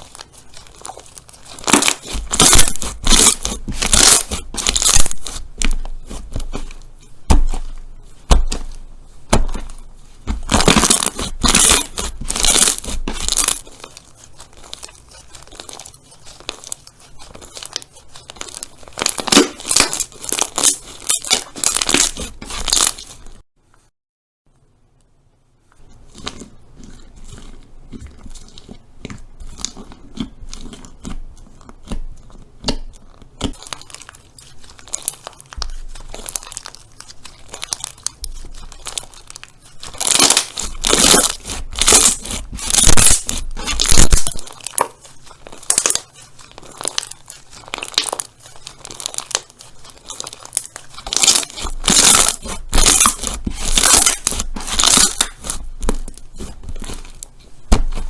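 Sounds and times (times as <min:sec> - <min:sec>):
slime squished crackling: 0:00.0 - 0:23.4, 0:25.9 - 0:58.0.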